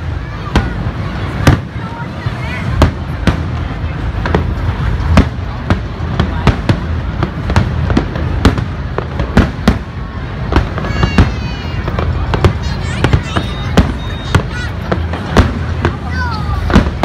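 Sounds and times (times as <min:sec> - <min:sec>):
continuous low rumble: 0:00.0 - 0:17.0.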